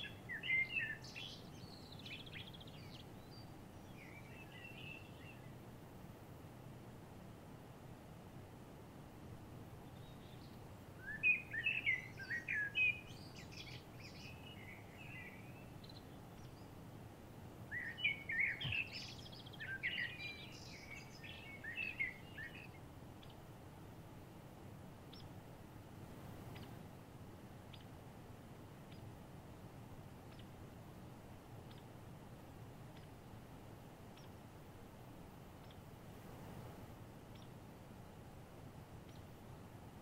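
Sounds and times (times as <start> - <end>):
songbird singing: 0.0 - 6.9, 9.6 - 25.8, 26.4 - 36.0, 37.2 - 40.0
faint steady hiss: 0.0 - 40.0.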